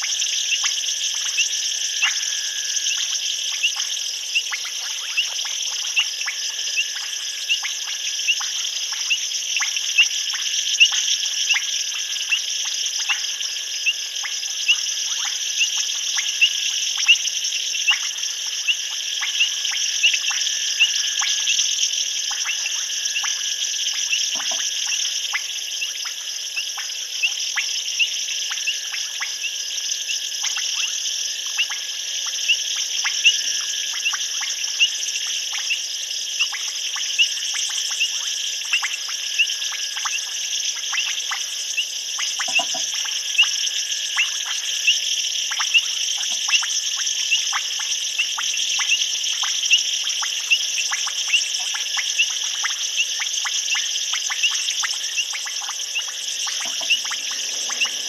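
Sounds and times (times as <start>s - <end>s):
frogs chirping: 0.0s - 58.0s
insects trilling hum: 0.0s - 58.0s.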